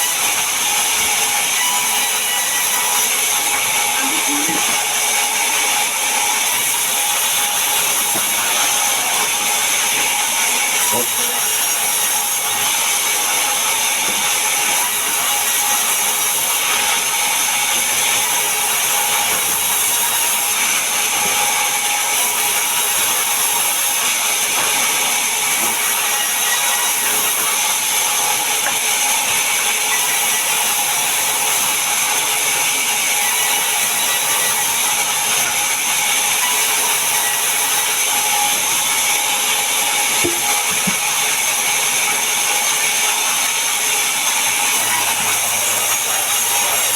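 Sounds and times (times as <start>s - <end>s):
power saw cutting wood: 0.0s - 46.9s.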